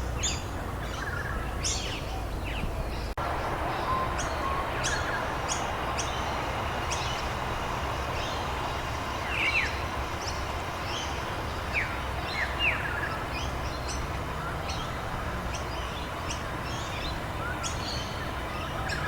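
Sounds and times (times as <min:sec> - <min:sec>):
songbirds chirping: 0:00.0 - 0:19.0
steady rain: 0:03.2 - 0:19.0.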